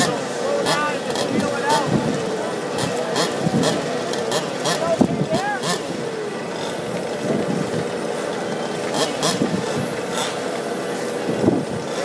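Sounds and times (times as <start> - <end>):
engine throttle blips: 0.0 - 12.0
small two-stroke engines idling: 0.0 - 12.0.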